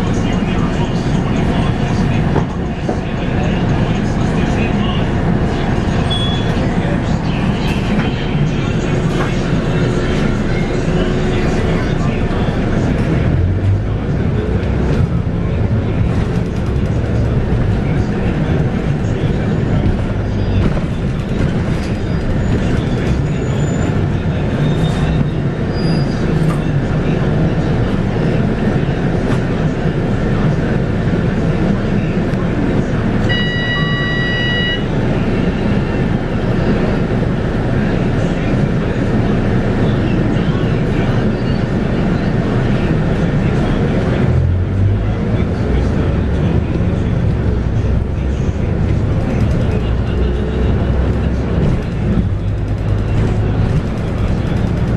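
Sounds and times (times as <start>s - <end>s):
diesel bus engine drone: 0.0s - 54.9s
road rumble: 0.0s - 54.9s.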